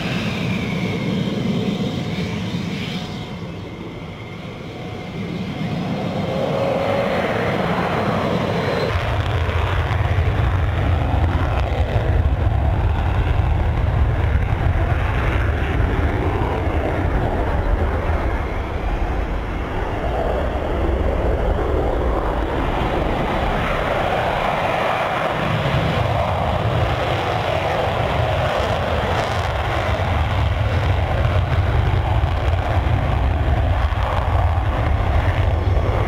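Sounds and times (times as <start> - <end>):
jet engine whine: 0.0 - 36.0
jet engines roaring: 0.0 - 36.0.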